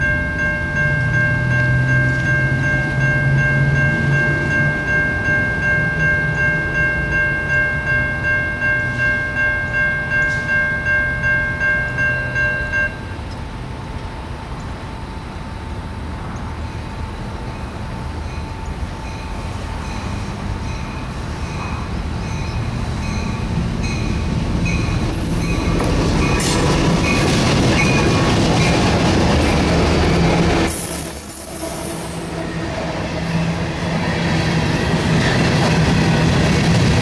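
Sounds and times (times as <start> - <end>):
railroad crossing bell ringing: 0.0 - 37.0
train rumble: 0.0 - 37.0.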